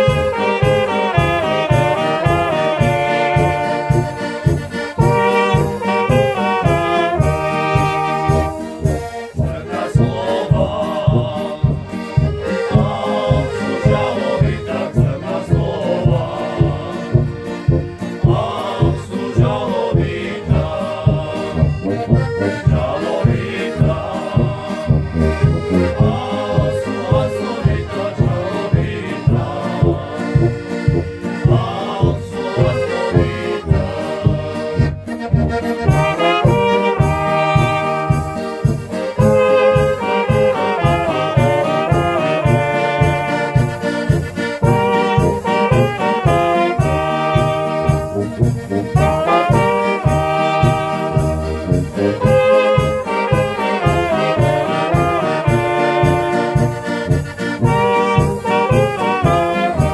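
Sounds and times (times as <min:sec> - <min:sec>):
accordion melody: 0:00.0 - 0:59.9
brass band tune: 0:00.0 - 0:59.9
oom-pah bass beat: 0:00.0 - 0:59.9.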